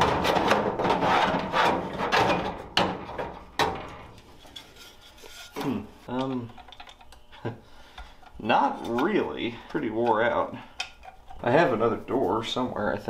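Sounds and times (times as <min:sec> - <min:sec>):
metal scraping and rattling: 0:00.0 - 0:07.1, 0:08.2 - 0:12.7.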